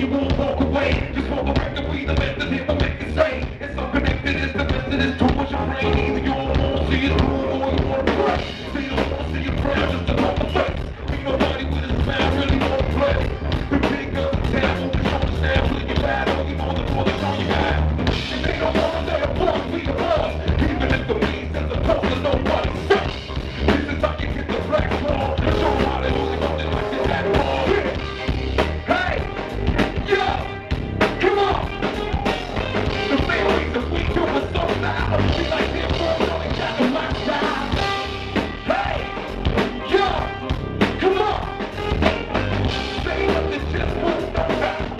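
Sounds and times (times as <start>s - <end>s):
live band playing: 0.0s - 44.9s.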